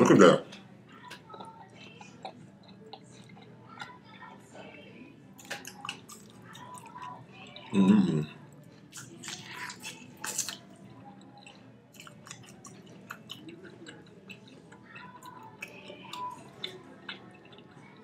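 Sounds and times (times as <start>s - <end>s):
chewing with wet mouth noises: 0.5s - 18.0s.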